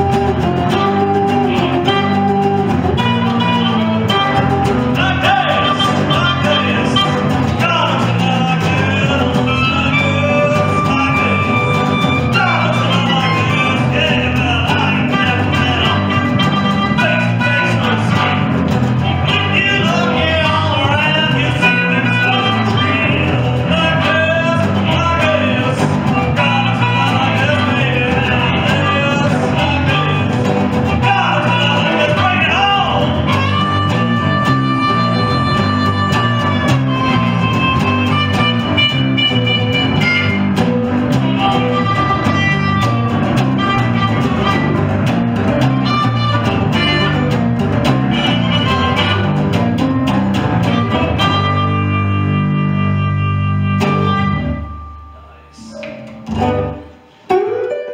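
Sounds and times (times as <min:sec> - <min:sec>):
bass guitar: 0:00.0 - 0:57.9
harmonica playing: 0:00.0 - 0:57.9
resonator guitar: 0:00.0 - 0:57.9.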